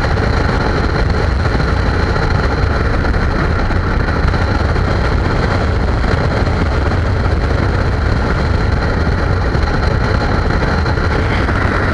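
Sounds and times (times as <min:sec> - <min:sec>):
motorcycle engine drone: 0:00.0 - 0:11.9
wind rush: 0:00.0 - 0:11.9.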